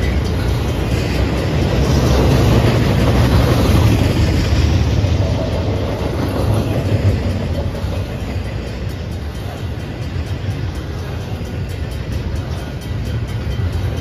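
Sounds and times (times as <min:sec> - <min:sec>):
steel wheels rumbling on rail: 0:00.0 - 0:14.0.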